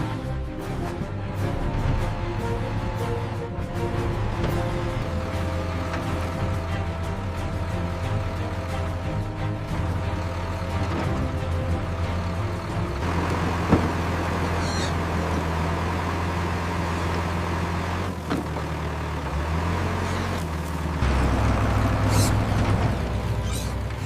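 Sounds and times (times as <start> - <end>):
heavy vehicle engine rumbling: 0.0 - 24.0.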